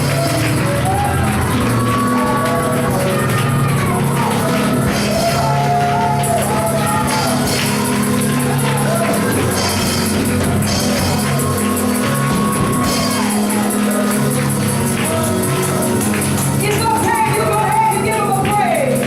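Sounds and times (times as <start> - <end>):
jingling percussion: 0.0 - 19.0
keyboard chords: 0.0 - 19.0.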